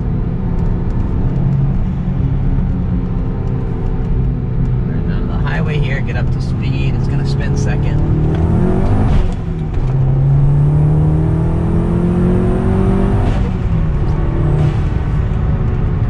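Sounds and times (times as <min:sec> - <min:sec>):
car engine accelerating through gears: 0:00.0 - 0:16.0.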